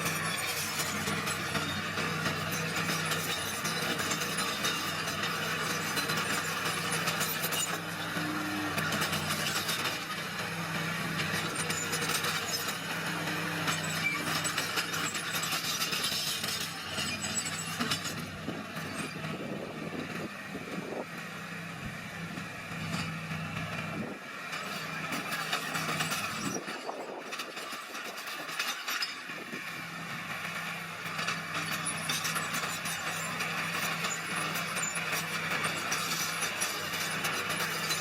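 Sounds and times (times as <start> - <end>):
tracks clattering and scraping stone: 0.0 - 21.0, 22.8 - 38.0
bulldozer diesel engine running: 0.0 - 38.0.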